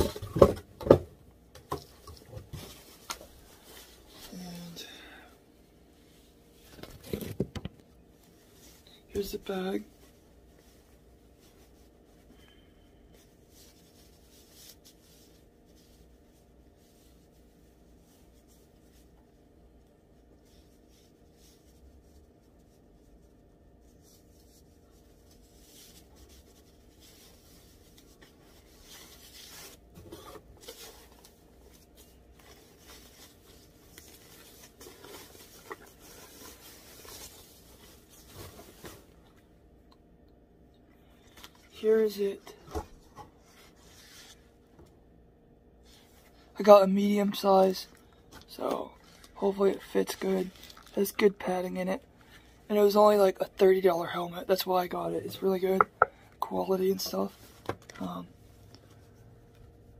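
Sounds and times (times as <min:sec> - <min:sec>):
faint room hum: 0:00.0 - 0:59.9
rustling of cloth and wrap: 0:01.8 - 0:04.9, 0:08.0 - 0:39.5, 0:45.8 - 0:55.8, 0:56.5 - 0:59.9.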